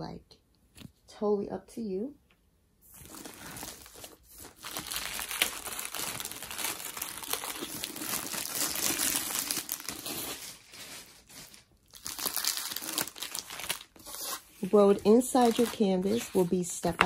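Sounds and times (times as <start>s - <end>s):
plastic wrap crinkling: 2.9s - 17.0s.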